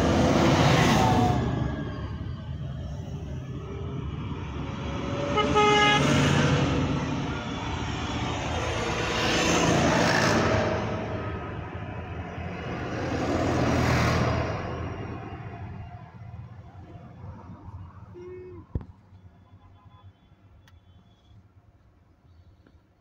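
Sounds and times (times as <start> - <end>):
trucks passing by: 0.0 - 23.0.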